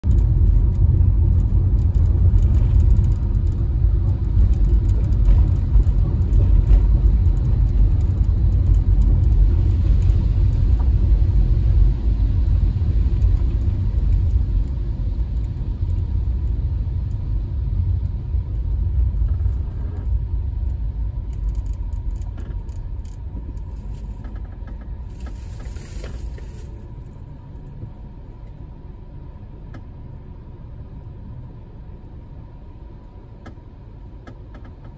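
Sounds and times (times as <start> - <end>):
car engine rumble: 0.0 - 34.9
tyres on wet road: 0.1 - 34.9.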